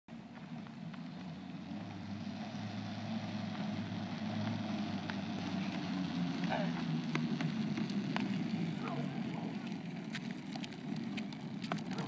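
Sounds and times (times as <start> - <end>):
wagon wheels rolling on asphalt: 0.1 - 12.0.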